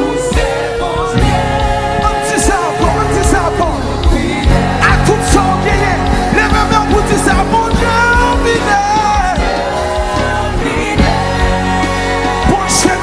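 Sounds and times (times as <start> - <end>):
steady drum beat: 0.0 - 13.0
sung melody: 0.0 - 13.0.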